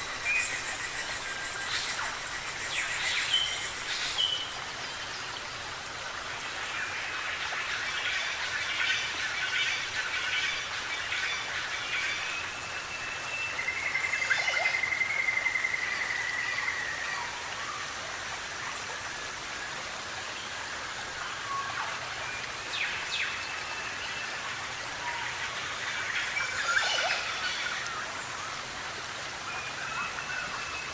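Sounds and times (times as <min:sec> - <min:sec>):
forest background hiss: 0:00.0 - 0:30.9.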